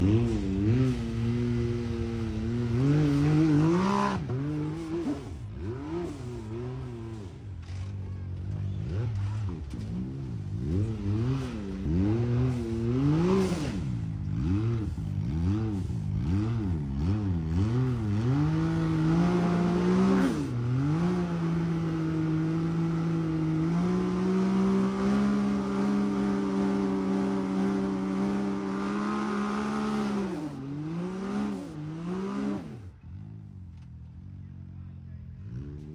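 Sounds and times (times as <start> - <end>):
utv engine revving: 0.0 - 35.9.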